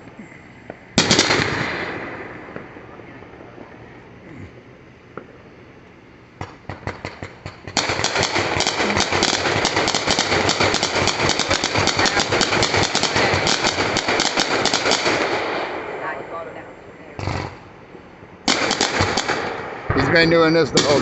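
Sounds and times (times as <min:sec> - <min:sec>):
fireworks cracking: 0:00.0 - 0:16.6, 0:17.2 - 0:21.0
rapid crackle of small bangs: 0:00.6 - 0:15.9, 0:18.4 - 0:20.1.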